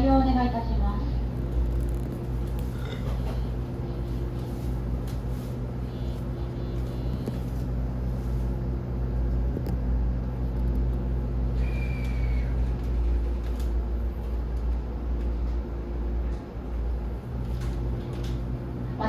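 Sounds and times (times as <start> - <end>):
steady low train hum: 0.0 - 19.0.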